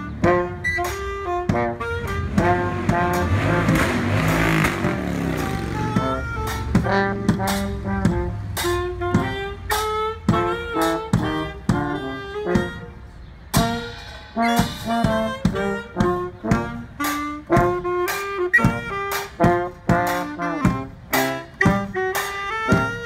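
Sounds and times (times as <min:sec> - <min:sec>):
saxophone and brass horn: 0:00.0 - 0:23.0
steady drum beat: 0:00.0 - 0:23.0.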